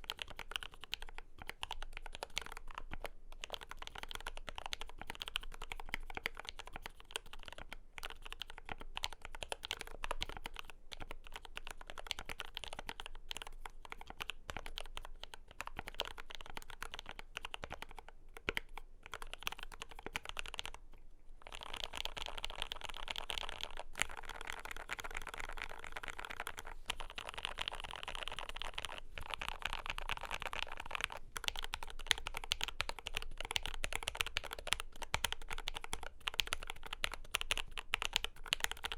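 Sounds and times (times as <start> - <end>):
mechanical keyboard typing: 0.0 - 20.8, 21.5 - 38.9.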